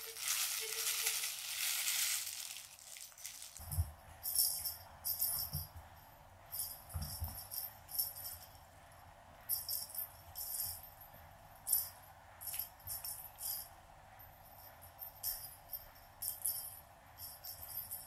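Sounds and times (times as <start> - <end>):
small bell jingling: 0.0 - 5.8, 6.5 - 8.7, 9.5 - 13.7, 14.4 - 18.0.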